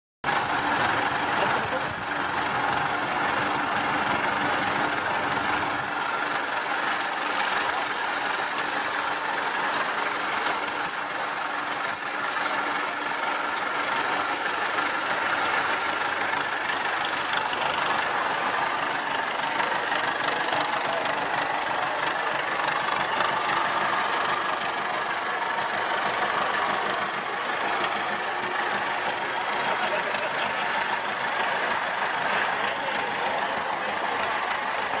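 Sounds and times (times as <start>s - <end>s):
truck diesel engine running: 0.2s - 35.0s.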